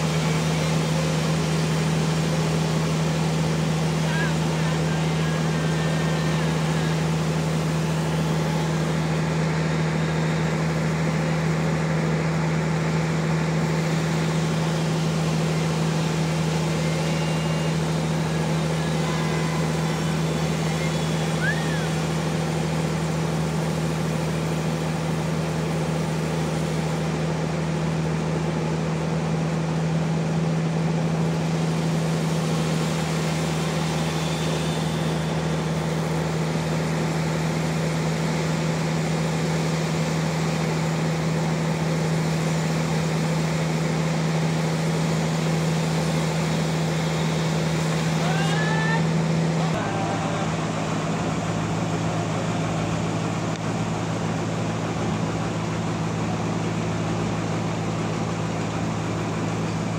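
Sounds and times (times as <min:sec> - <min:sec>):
sawmill machine humming: 0:00.0 - 0:59.9.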